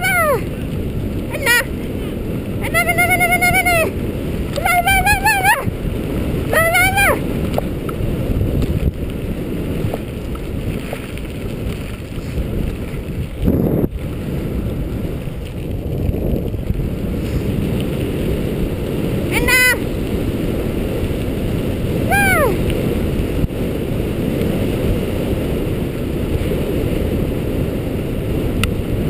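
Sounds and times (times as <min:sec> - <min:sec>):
wheels rumbling on gravel: 0:00.0 - 0:29.0
wind on microphone: 0:00.0 - 0:29.0.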